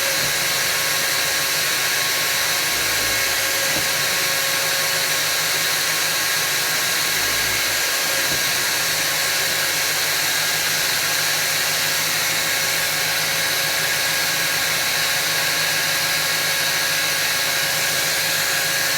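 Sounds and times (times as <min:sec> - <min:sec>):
electric drill whining: 0:00.0 - 0:18.9.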